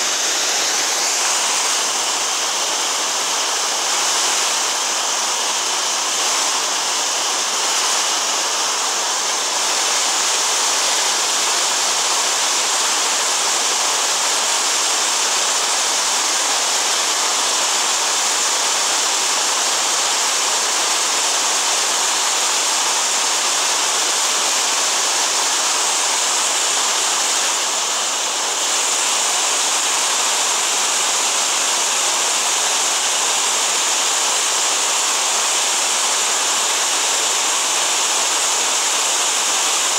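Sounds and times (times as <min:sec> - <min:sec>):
creek rushing over boulders: 0:00.0 - 0:39.9.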